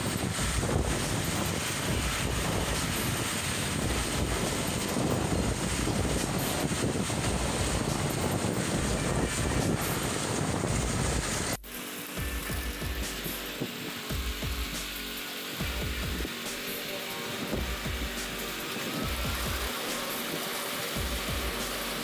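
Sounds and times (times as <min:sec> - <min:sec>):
power trowel engine running: 0:00.0 - 0:22.0.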